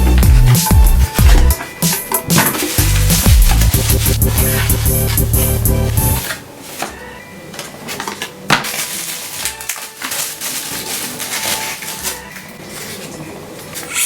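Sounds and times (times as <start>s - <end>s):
sparse background music: 0.0s - 14.0s.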